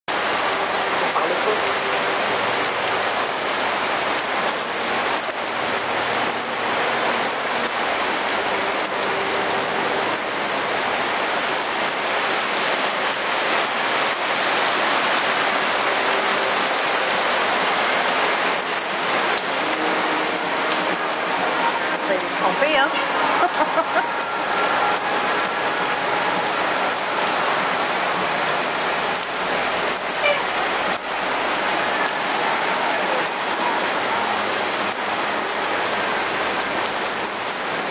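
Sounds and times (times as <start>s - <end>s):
heavy rain on flooded street: 0.0s - 37.9s.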